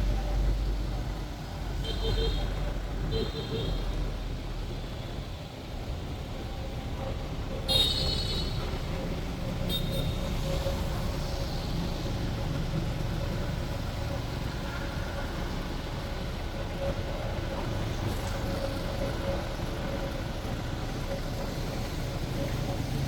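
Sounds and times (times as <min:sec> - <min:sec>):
bus engine running: 0:00.0 - 0:23.0
street traffic: 0:00.0 - 0:23.0.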